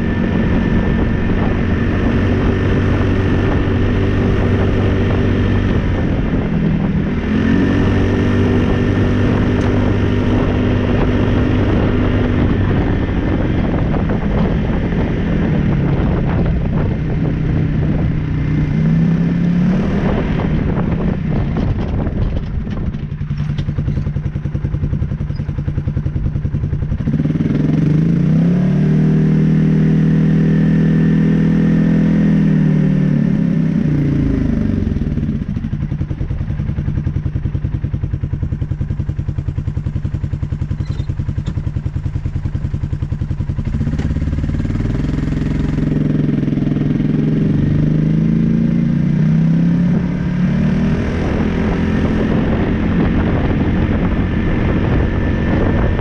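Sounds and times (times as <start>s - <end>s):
engine revving: 0.0s - 38.6s, 39.3s - 56.0s.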